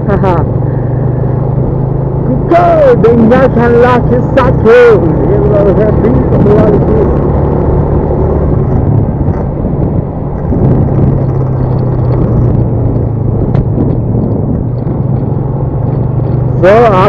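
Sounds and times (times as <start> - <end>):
road noise: 0.0 - 17.0
vehicle engine drone: 0.0 - 17.0
wind noise: 2.4 - 17.0.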